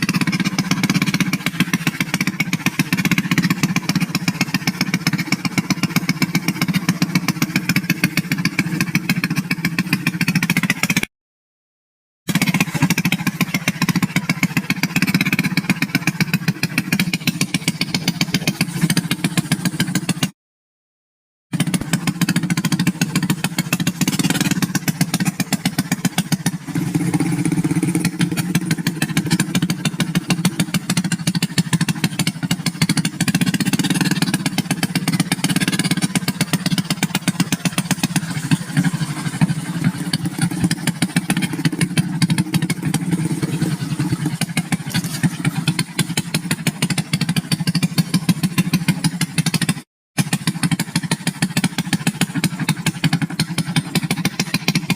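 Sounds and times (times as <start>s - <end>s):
motorcycle engine running: 0.0s - 11.1s, 12.3s - 20.4s, 21.5s - 54.9s.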